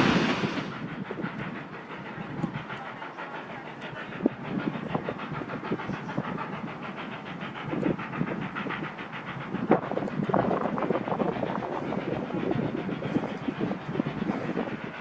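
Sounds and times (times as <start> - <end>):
steam hiss: 0.0 - 15.0
steam locomotive beats: 0.0 - 15.0.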